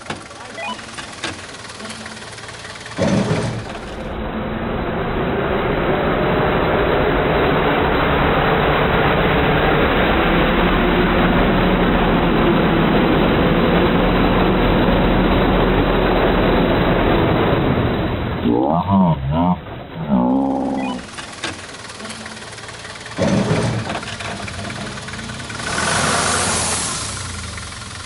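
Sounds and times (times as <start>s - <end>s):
diesel engine running hard: 0.0s - 28.0s.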